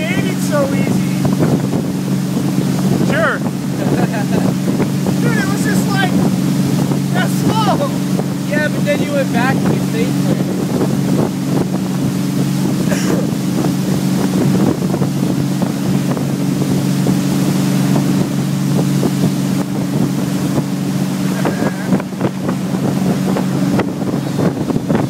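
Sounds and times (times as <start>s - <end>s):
motorboat engine humming: 0.0s - 25.0s
water rushing: 0.0s - 25.0s
wind buffeting microphone: 0.0s - 25.0s.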